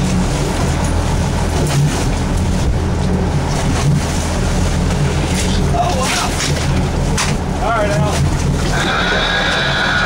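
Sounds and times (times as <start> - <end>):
boat engine running: 0.0 - 10.0
sea noise: 0.0 - 10.0
wind: 0.0 - 10.0.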